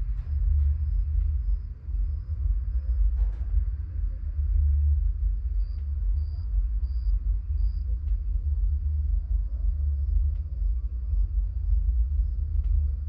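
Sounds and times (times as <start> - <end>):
distant muffled bass music: 0.0 - 13.0.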